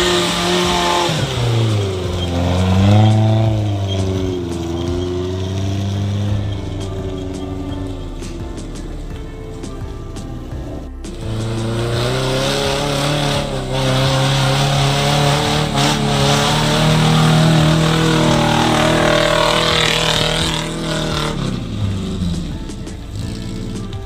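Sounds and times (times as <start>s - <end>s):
off-road vehicle engine under load: 0.0s - 24.0s.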